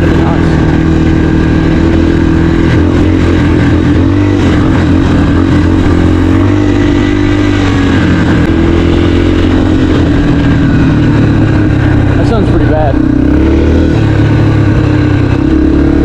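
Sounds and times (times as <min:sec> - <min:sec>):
dirt bike engine droning: 0:00.0 - 0:16.0.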